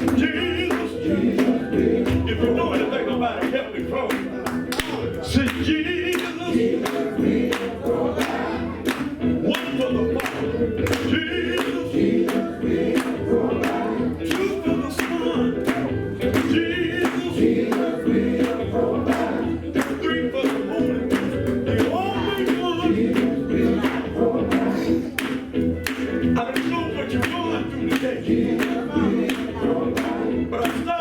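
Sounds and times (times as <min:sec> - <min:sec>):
band playing a steady beat: 0:00.0 - 0:31.0
vocal group singing in harmony: 0:00.0 - 0:31.0.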